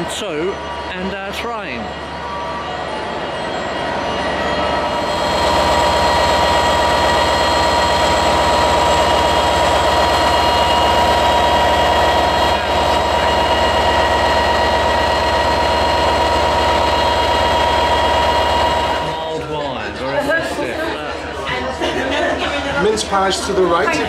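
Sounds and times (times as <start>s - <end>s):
train droning with high whine: 0.0s - 19.7s.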